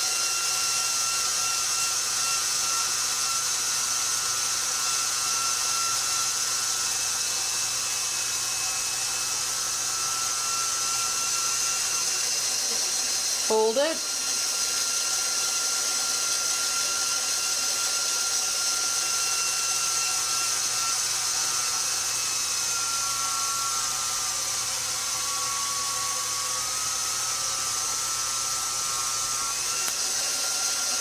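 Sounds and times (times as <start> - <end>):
stand mixer motor whine: 0.0 - 31.0.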